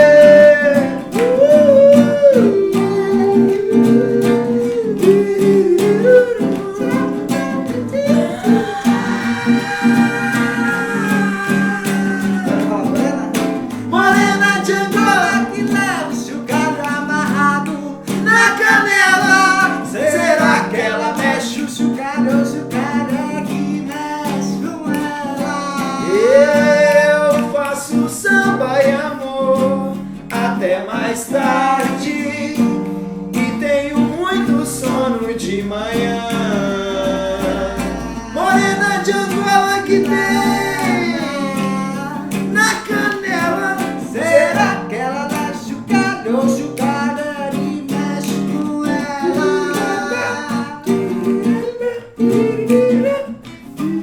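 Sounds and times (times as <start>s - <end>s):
guitar playing: 0.0s - 54.0s
person singing: 0.0s - 54.0s.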